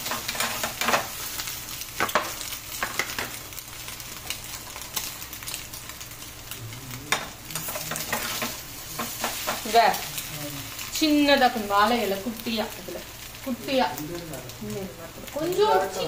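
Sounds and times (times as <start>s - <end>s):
omelette sizzling in oil: 0.0s - 16.0s.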